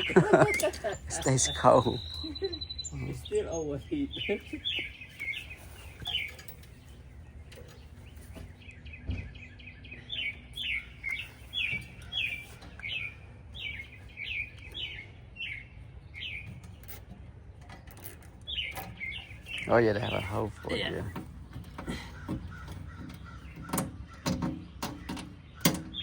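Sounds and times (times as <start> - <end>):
small bird chirping: 0.0 - 26.0.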